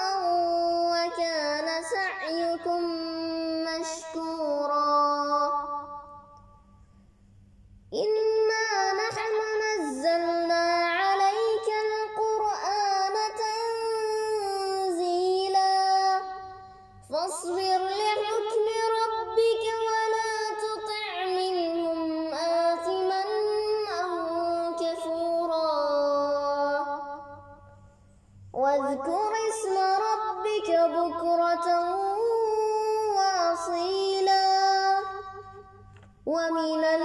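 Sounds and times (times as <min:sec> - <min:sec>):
person chanting melodically: 0:00.0 - 0:06.4, 0:08.0 - 0:27.6, 0:28.6 - 0:37.0.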